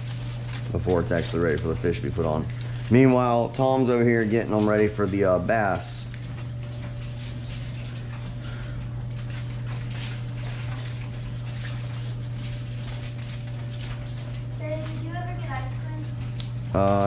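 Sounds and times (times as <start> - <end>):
aluminium foil crinkling: 0.0 - 17.0
steady low hum: 0.0 - 17.0.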